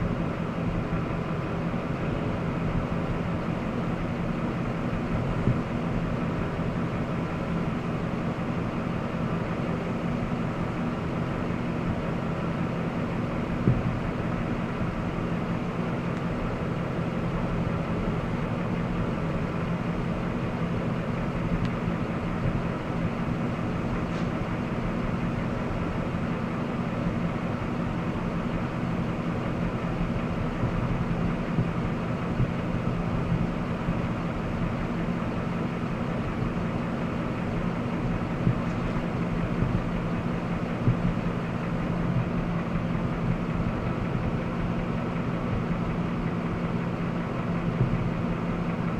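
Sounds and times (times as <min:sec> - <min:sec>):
engine running steadily: 0:00.0 - 0:48.9
unidentified engine noise: 0:00.0 - 0:48.9.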